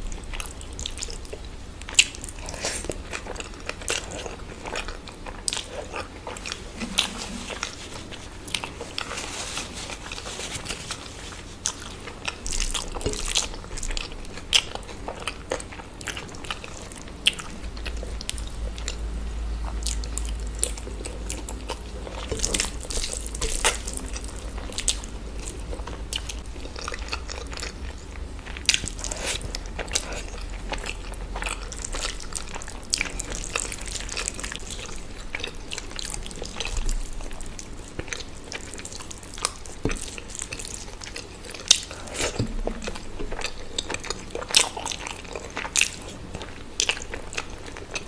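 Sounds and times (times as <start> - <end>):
close-miked eating and chewing: 0.0 - 48.0.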